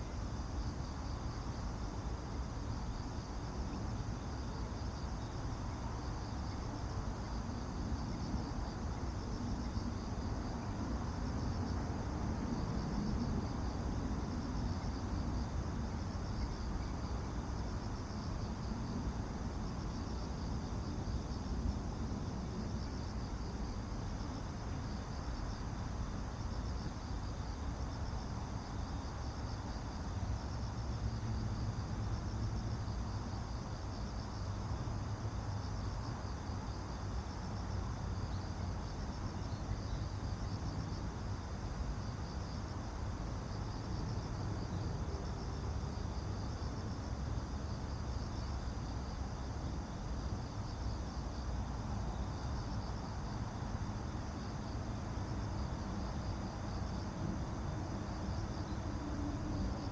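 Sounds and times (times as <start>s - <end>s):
constant low rumble: 0.0s - 59.9s
insects chirping: 0.0s - 59.9s.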